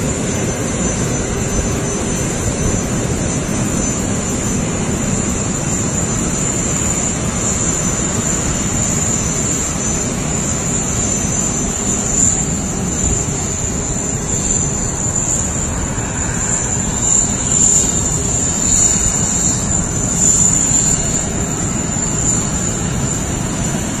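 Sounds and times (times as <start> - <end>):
aircraft engine rushing: 0.0 - 24.0
high steady whine: 0.0 - 24.0.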